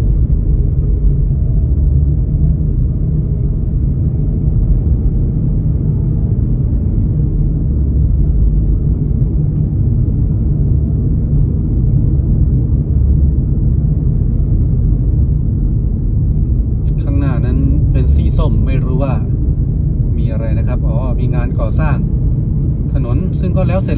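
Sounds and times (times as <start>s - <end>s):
car tyres and engine rumble: 0.0s - 23.9s.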